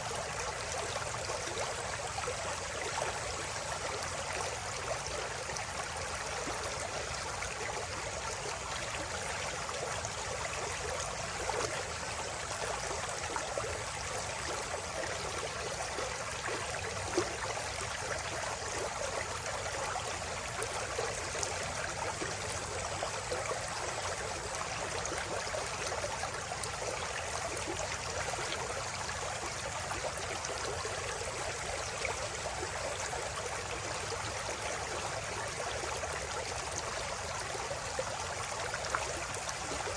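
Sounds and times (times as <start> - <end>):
stream babbling over rocks: 0.0 - 39.9
small water splashes: 5.8 - 39.9.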